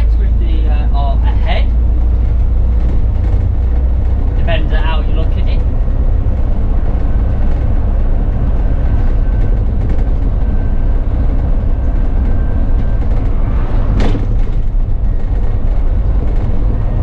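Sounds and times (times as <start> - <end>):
bus engine and road noise: 0.0 - 17.0.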